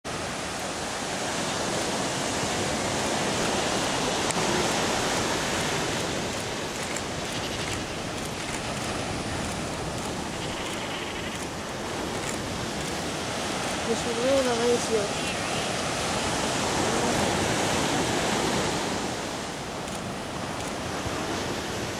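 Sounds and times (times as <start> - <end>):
surf washing onto shingle beach: 0.1 - 21.9.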